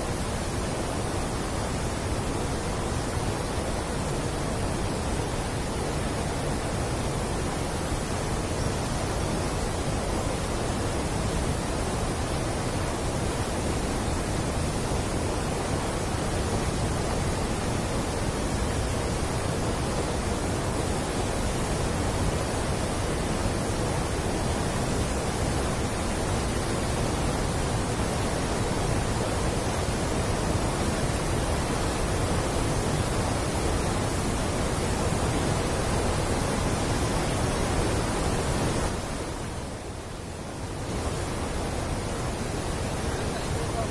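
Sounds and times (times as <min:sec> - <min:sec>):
water rushing through sluice gate: 0:00.0 - 0:43.9.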